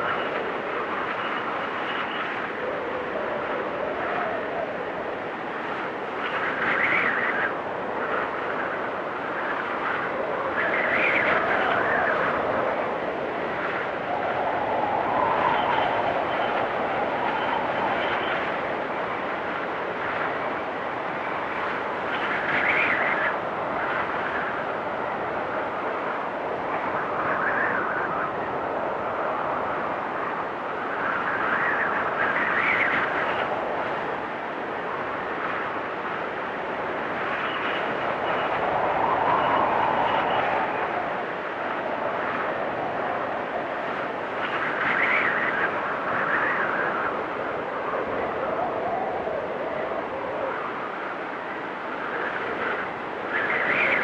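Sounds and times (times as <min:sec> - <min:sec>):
storm wind rushing: 0:00.0 - 0:54.0.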